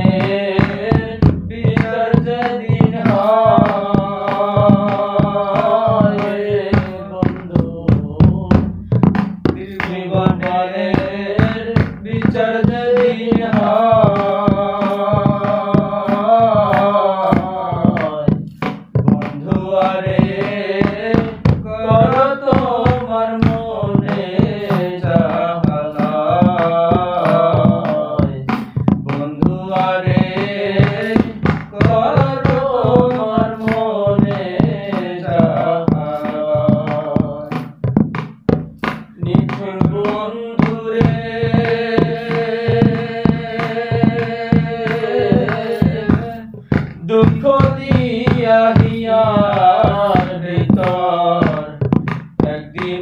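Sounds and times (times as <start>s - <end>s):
men singing a folk song: 0.0s - 53.0s
percussion beat: 0.0s - 53.0s.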